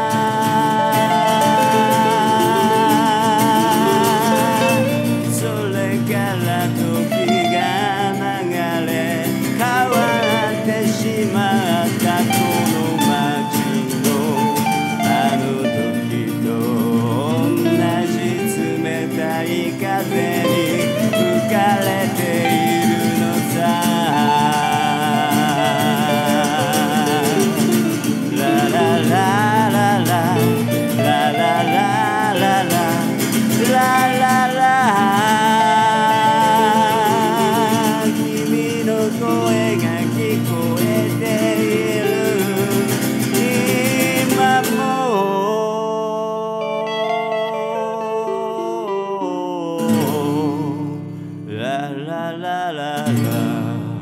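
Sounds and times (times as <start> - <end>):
lead electric guitar bent notes: 0.0 - 44.5, 46.6 - 51.2
acoustic guitar accompaniment: 0.0 - 54.0.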